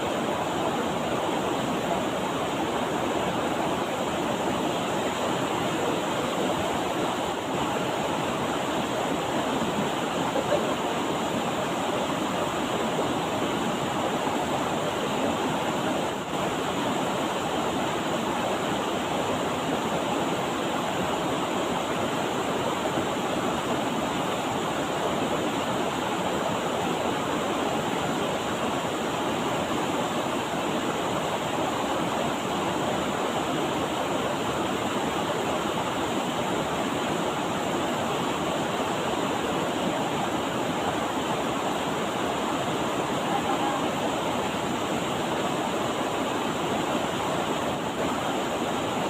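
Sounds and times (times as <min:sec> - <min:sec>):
river water rushing: 0:00.0 - 0:49.0.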